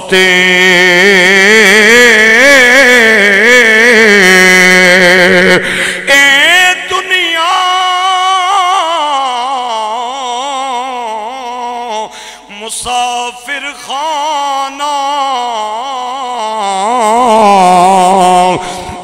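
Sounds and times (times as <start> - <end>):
man singing with vibrato: 0.0 - 19.0.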